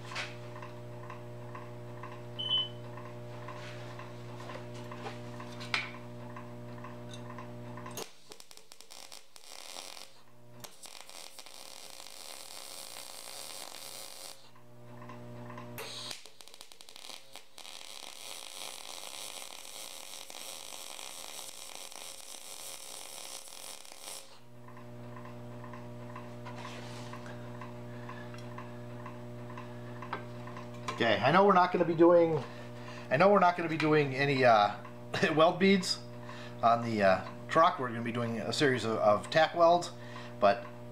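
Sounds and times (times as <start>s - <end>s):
welder hum with ticking: 0.0s - 40.9s
welding arc crackling: 4.2s - 26.4s, 27.1s - 40.9s.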